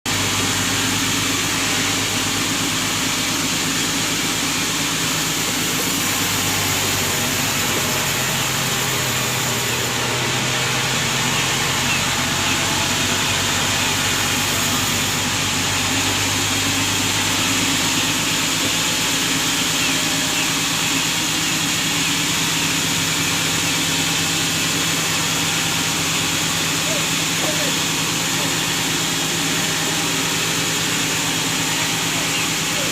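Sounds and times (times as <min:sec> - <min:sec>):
engine hum: 0:00.1 - 0:32.9.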